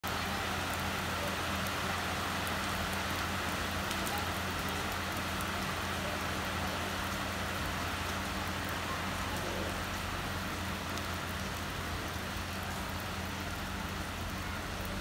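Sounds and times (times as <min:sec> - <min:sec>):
rain on wet paving: 0:00.0 - 0:15.0
raindrops ticking: 0:00.0 - 0:15.0.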